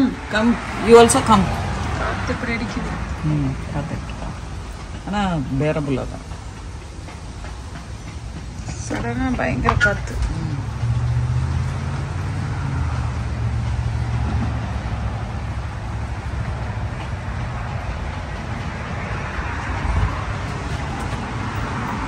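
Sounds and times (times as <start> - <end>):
wind buffeting microphone: 0.2 - 22.0.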